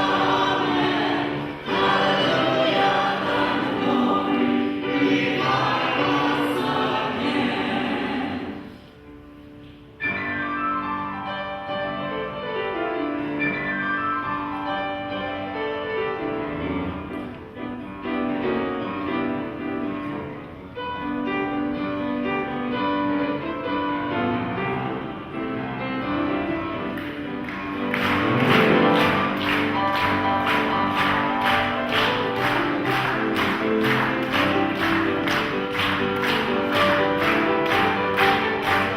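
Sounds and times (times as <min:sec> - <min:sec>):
piano and strings music: 0:00.0 - 0:38.9.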